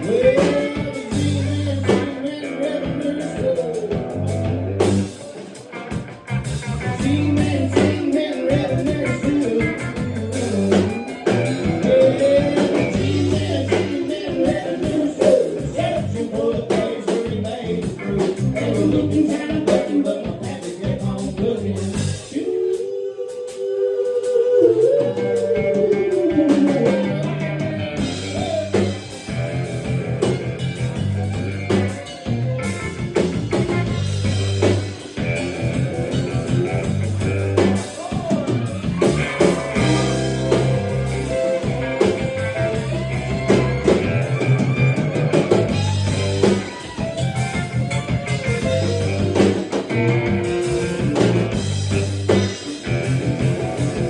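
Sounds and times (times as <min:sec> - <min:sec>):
country band playing: 0:00.0 - 0:54.0.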